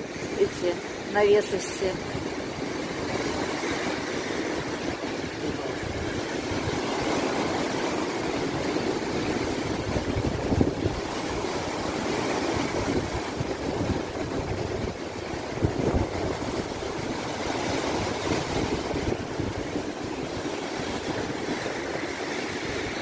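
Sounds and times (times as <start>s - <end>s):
waves breaking: 0.0s - 23.0s
wind buffeting microphone: 0.0s - 23.0s.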